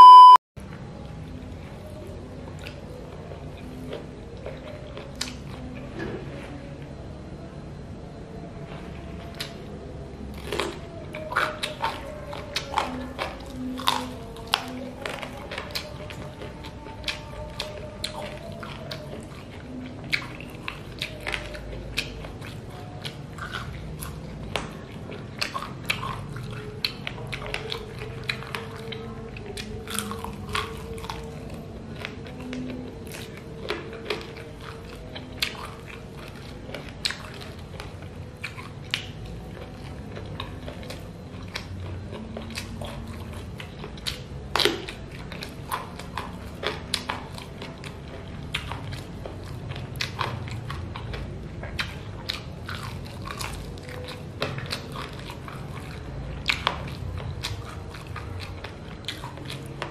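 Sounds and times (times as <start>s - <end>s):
person chewing and biting: 1.4s - 5.9s, 9.0s - 59.9s
sharp mouth clicks and smacks: 3.9s - 5.6s, 10.4s - 59.9s.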